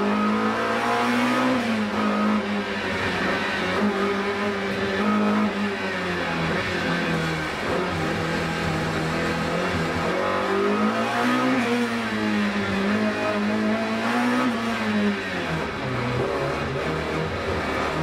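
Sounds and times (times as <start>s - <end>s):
race car engine under load: 0.0s - 18.0s.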